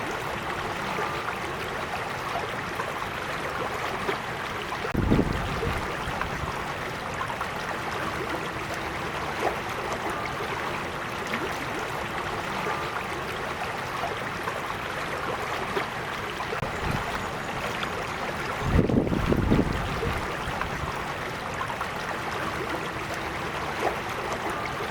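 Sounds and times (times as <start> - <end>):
creek water flowing over stones: 0.0 - 24.9.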